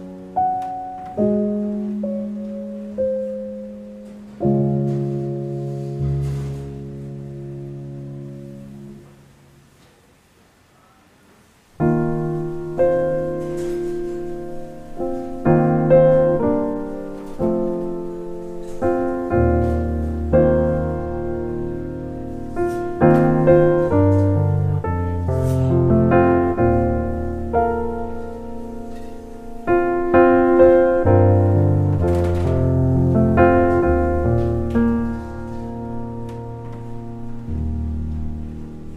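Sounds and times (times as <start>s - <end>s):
slow gentle piano music: 0.0s - 9.8s, 11.7s - 38.9s.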